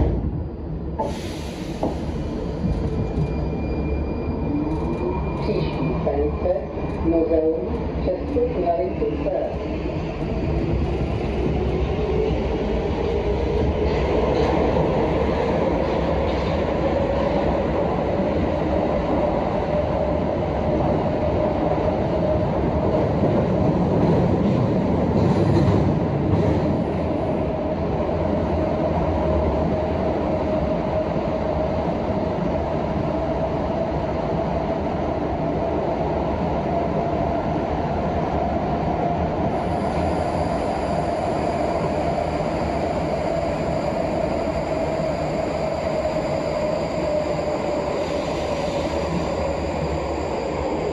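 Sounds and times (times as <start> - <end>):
wheels rumbling on rail: 0.0 - 50.9.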